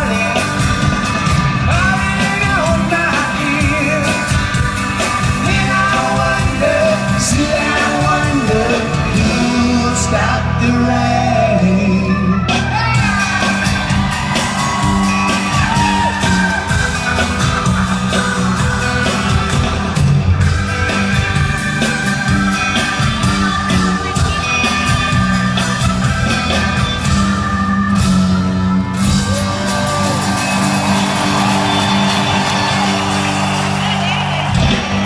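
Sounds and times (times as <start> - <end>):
live rock band playing: 0.0 - 35.0
loud electric guitar: 0.0 - 35.0.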